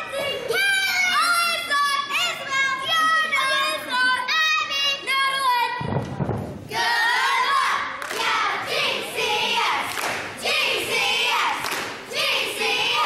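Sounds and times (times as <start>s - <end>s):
cheerleaders shouting a chant: 0.0s - 5.9s, 6.7s - 13.0s.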